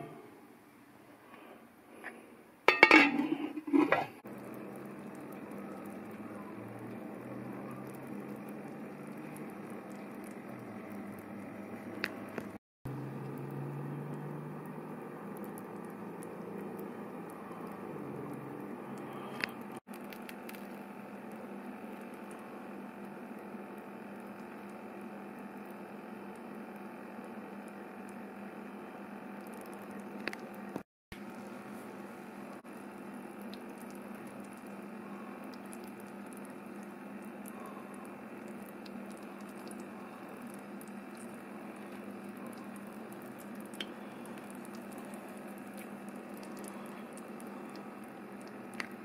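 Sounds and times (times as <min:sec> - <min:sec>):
low steady hum: 0:00.0 - 0:23.5, 0:29.4 - 0:49.0
liquid simmering in slow cooker: 0:01.3 - 0:49.0.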